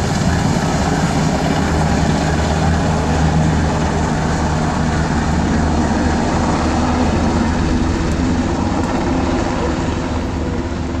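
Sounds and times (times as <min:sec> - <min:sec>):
helicopter rotors and engines: 0:00.0 - 0:11.0.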